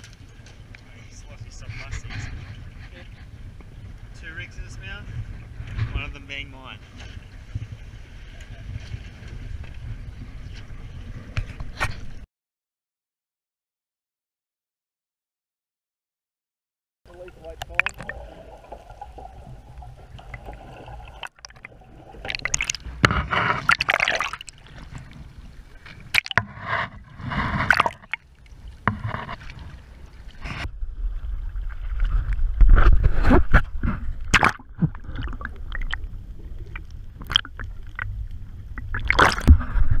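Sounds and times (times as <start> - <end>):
water splashing against boat: 0.0 - 12.2, 17.1 - 40.0.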